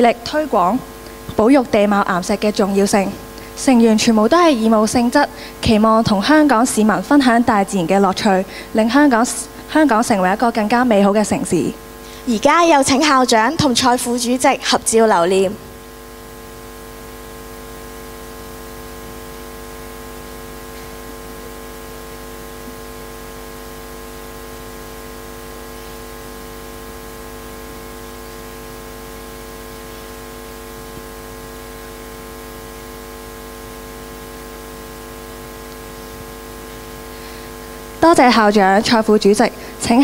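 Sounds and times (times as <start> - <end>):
electrical hum and hiss: 0.0 - 40.0.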